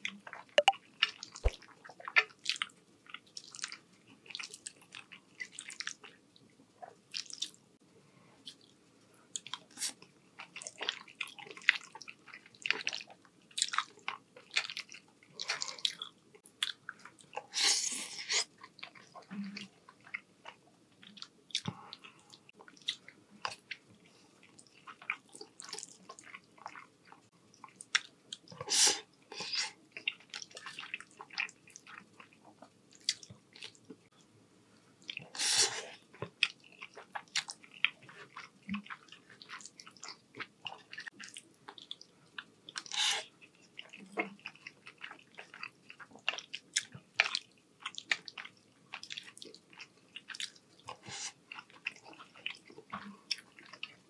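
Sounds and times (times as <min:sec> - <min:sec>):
chewing and wet mouth sounds: 0:00.0 - 0:07.6, 0:08.4 - 0:34.3, 0:35.0 - 0:54.0.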